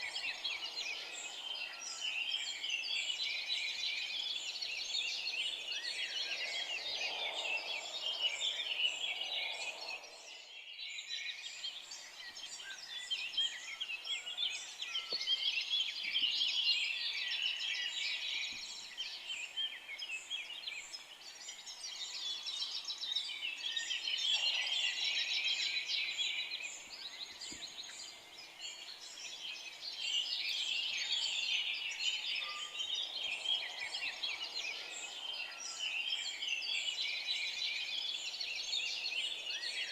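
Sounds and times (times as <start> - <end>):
forest birds chirping and trilling: 0.0 - 39.9.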